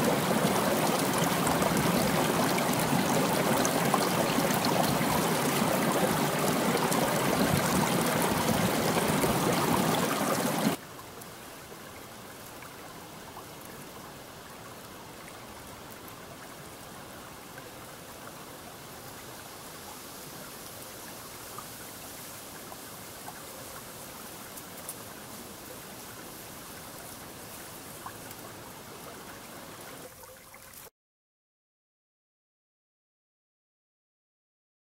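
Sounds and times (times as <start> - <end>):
creek rushing and gurgling: 0.0 - 30.8
slow water flowing: 0.0 - 30.9.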